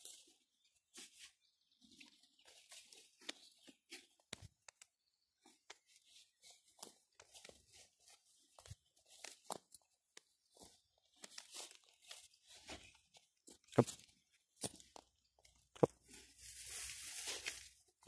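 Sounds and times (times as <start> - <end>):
footsteps crunching dry grass: 0.0 - 4.6, 5.4 - 18.0.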